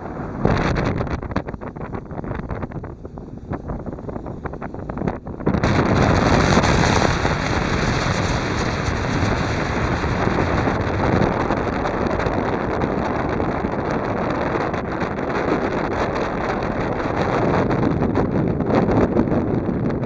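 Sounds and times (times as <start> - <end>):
speedboat engine running: 0.0 - 19.3
wind buffeting microphone: 0.0 - 20.0.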